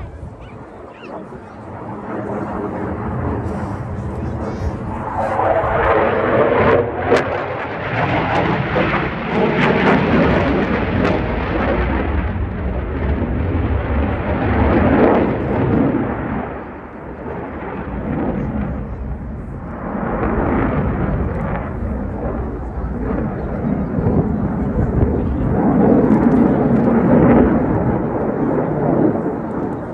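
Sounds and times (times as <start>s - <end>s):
fighter jet flying past: 0.0s - 29.9s.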